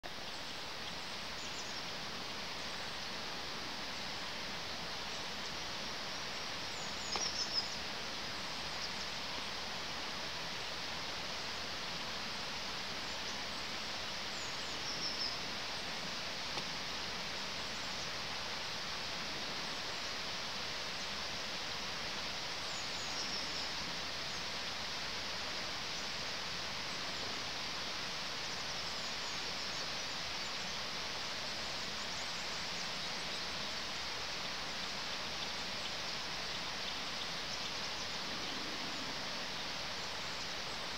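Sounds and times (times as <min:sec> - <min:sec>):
outdoor background hiss: 0:00.0 - 0:40.9.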